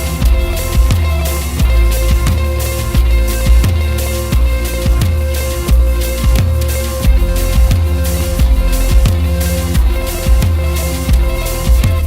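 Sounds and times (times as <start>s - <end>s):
drum kit: 0.0s - 12.0s
electric bass: 0.0s - 12.0s
electric guitar: 0.0s - 12.0s.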